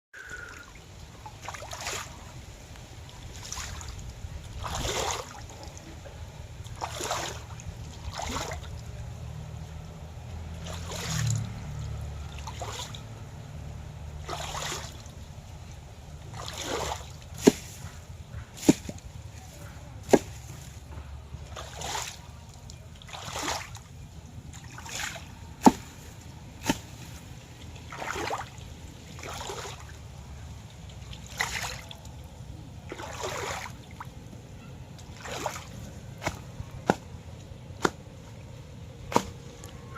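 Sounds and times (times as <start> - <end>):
low steady rumble: 0.2 - 39.9
water splashing and sloshing: 0.2 - 39.9.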